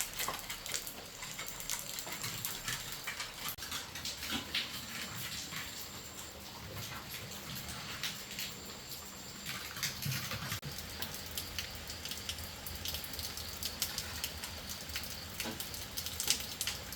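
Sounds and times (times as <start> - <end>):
raindrops pattering on a surface: 0.0 - 16.9
steady rain: 0.0 - 16.9.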